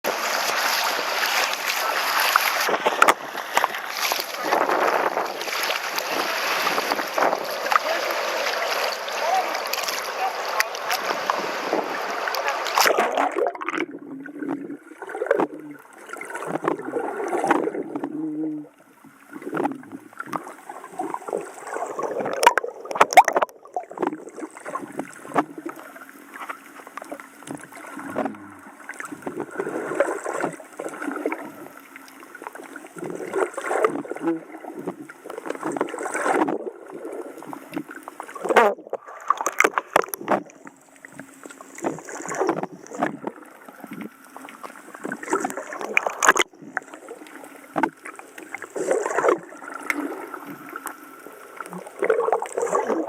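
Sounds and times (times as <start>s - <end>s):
seawater sloshing and gurgling: 0.0s - 53.0s.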